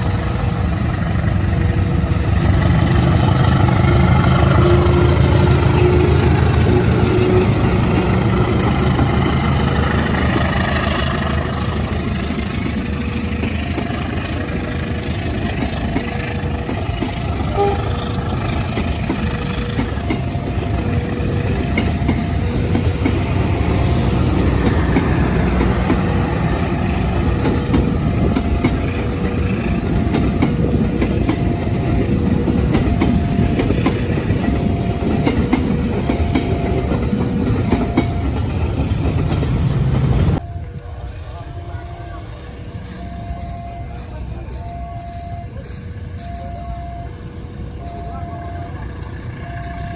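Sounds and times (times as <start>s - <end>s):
locomotive engine hum: 0.0s - 49.9s
train wheels rolling on rails: 0.0s - 49.9s
two-pitch electronic warning beeps: 2.9s - 38.9s, 40.4s - 49.9s.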